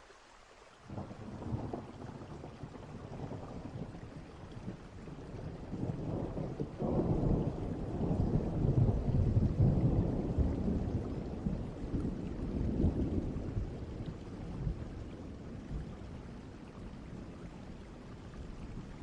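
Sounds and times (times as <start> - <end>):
distant thunder rumbling: 0.9 - 17.9.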